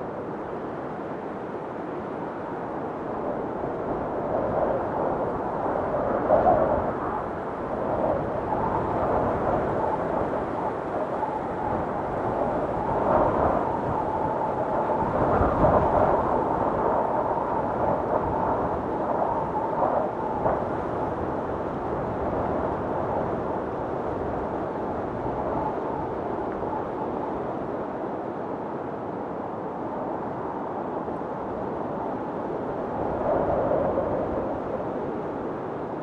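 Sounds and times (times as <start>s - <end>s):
storm wind gusting: 0.0s - 36.0s.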